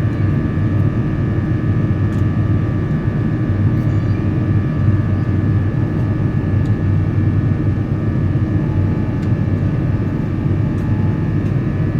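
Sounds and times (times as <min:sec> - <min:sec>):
aircraft cabin rumble: 0:00.0 - 0:11.9.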